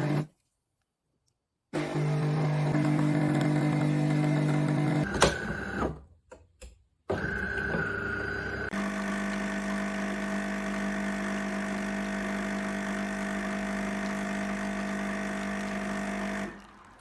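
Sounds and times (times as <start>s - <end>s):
coffee machine humming: 0.0s - 0.3s, 1.8s - 5.9s, 7.1s - 17.0s.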